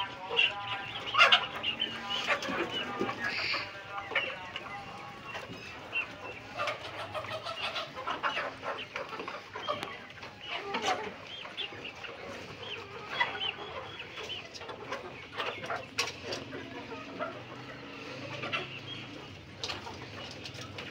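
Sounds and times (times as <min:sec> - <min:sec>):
chickens clucking: 0:00.0 - 0:20.9.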